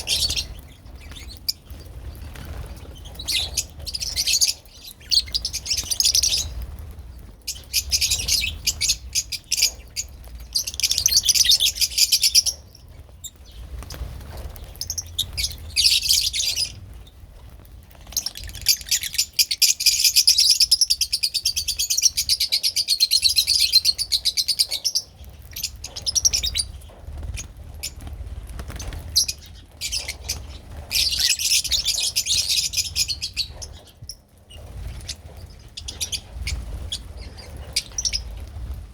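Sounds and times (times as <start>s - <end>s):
lovebirds chattering: 0.0s - 38.8s.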